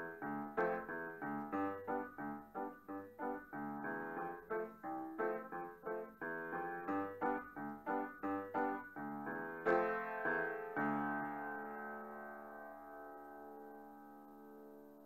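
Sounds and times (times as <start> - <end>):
upright piano playing: 0.0 - 15.0.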